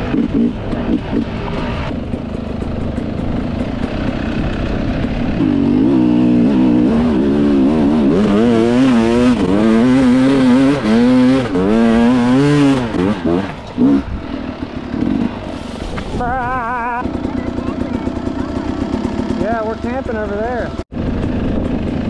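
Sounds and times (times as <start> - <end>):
wind noise: 0.0 - 17.0, 20.9 - 22.0
dirt bike engine revving: 0.0 - 22.0.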